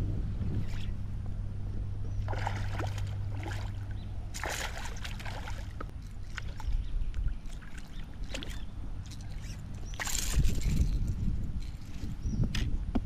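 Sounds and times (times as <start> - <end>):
steady low hum: 0.0 - 13.0
water splashing against boat: 2.1 - 12.7.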